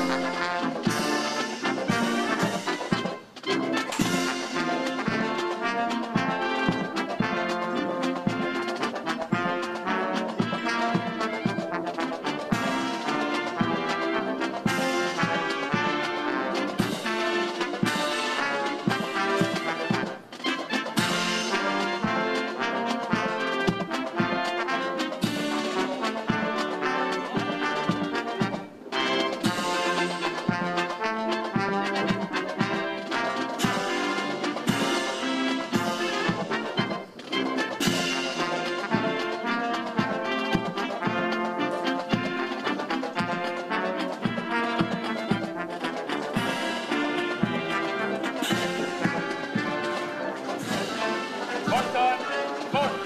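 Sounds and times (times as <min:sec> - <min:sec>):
brass band playing march: 0:00.0 - 0:53.0
drum beats: 0:00.0 - 0:53.0.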